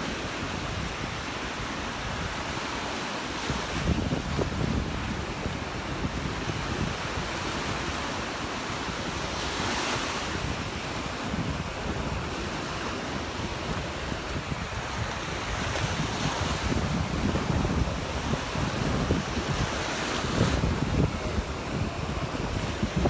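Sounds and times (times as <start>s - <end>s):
surf breaking on beach: 0.0s - 23.0s
wind buffeting microphone: 3.4s - 23.0s.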